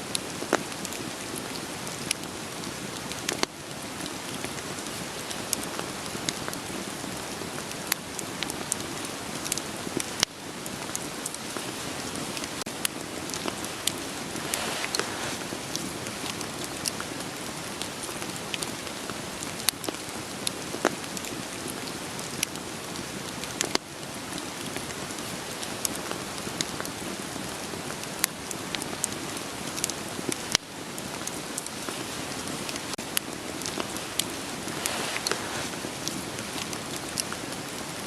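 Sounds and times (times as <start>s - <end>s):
steady rain: 0.0s - 38.0s
wood fire crackling: 0.0s - 38.0s.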